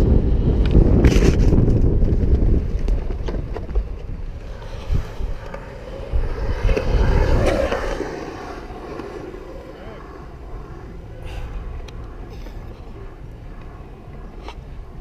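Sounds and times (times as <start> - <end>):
skateboard wheels rolling on concrete: 0.0 - 15.0
wind buffeting microphone: 0.0 - 15.0.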